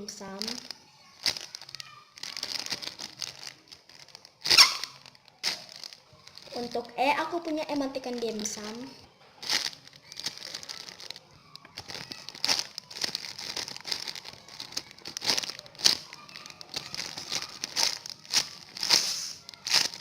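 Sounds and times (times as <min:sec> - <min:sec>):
packaging rustling and crackling: 0:00.0 - 0:20.0.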